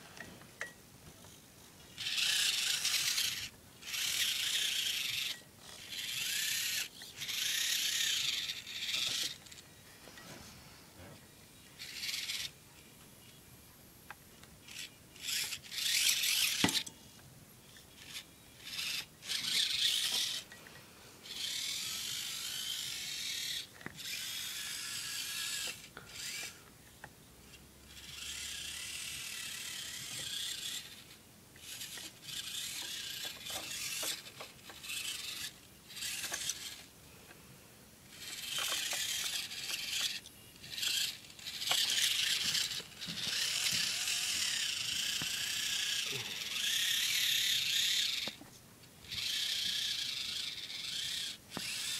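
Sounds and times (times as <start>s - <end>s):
rc crawler motor whining: 1.9s - 9.7s, 11.7s - 13.4s, 14.6s - 20.5s, 21.2s - 36.9s, 38.0s - 48.4s, 49.0s - 51.9s.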